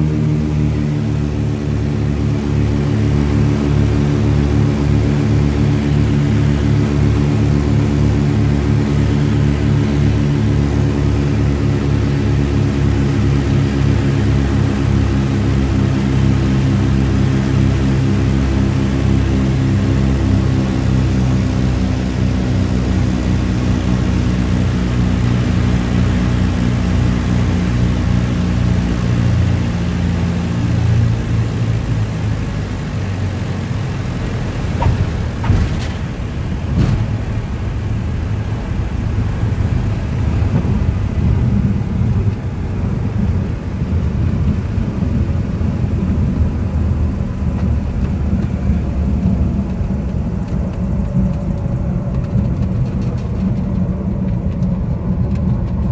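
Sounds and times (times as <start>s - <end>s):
propeller plane engine drone: 0.0s - 55.9s
rumble of rolling on runway: 0.0s - 55.9s.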